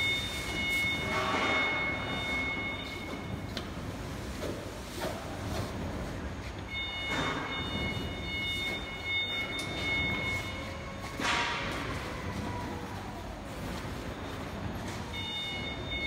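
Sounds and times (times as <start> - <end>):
factory hall rumble: 0.0 - 16.0.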